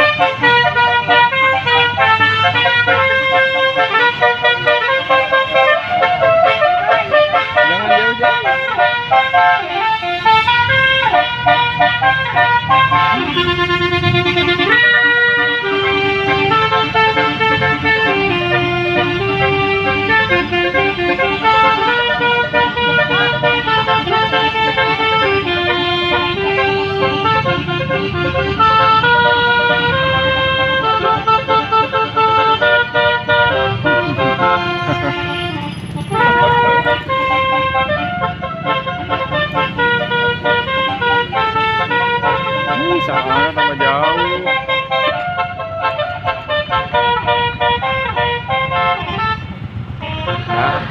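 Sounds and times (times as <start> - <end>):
musical air horn melody: 0.0 - 50.9.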